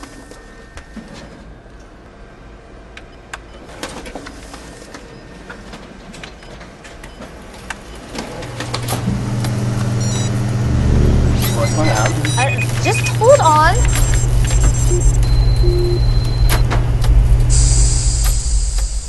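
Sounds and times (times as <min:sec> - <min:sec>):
photocopier low hum: 0:02.8 - 0:19.0.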